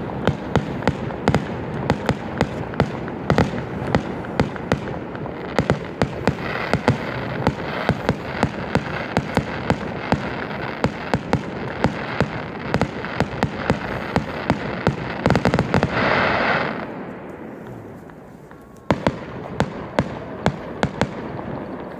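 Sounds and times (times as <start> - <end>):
fireworks hissing rush: 0.0 - 20.5
fireworks crackle: 0.0 - 21.9
fireworks popping and cracking: 0.0 - 21.9.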